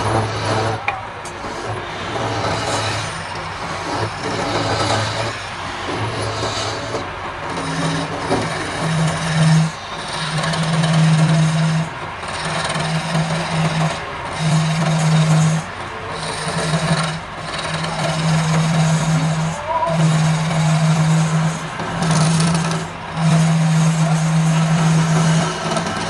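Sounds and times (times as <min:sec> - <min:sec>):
chisel rasping on spinning wood: 0:00.0 - 0:26.0
lathe low hum: 0:00.0 - 0:26.0.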